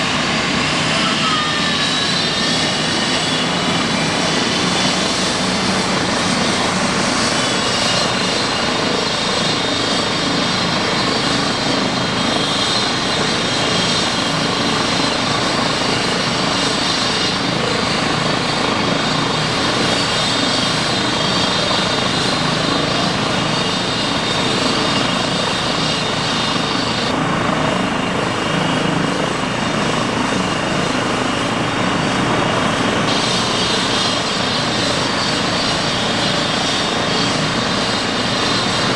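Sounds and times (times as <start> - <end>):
helicopter engines and rotor: 0.0 - 38.9.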